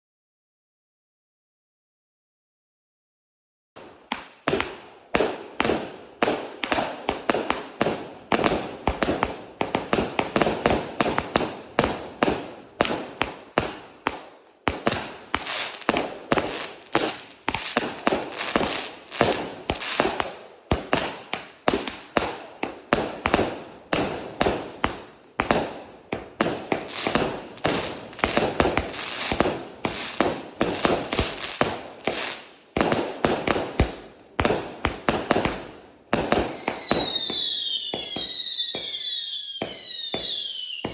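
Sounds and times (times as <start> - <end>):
firework launch thumps and bangs: 3.8 - 38.9
firework crackling: 3.8 - 40.9.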